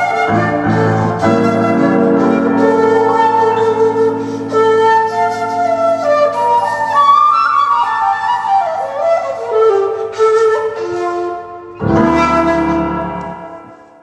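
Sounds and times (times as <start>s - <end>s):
piano accompaniment: 0.0s - 14.0s
shakuhachi melody: 0.0s - 14.0s.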